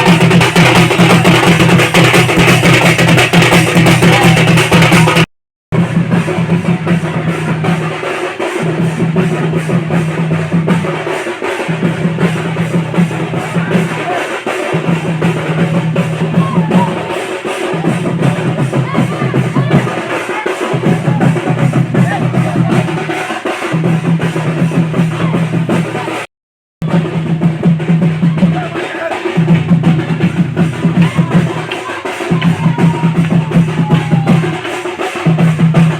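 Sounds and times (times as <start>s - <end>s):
music with heavy drum beat: 0.0s - 35.9s.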